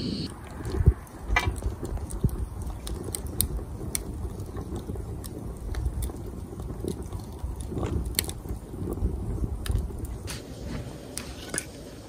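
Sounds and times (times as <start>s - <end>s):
fire crackles and pops: 0.0s - 12.0s
fire low rush: 0.0s - 12.0s.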